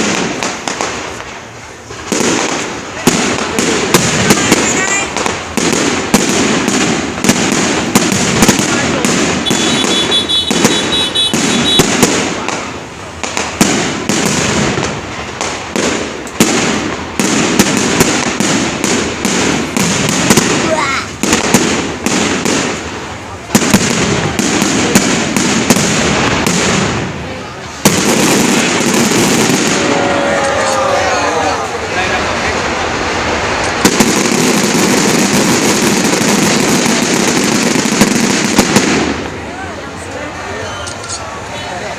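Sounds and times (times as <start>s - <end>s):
continuous rumble: 0.0s - 41.9s
fireworks bangs and crackles: 0.0s - 41.9s.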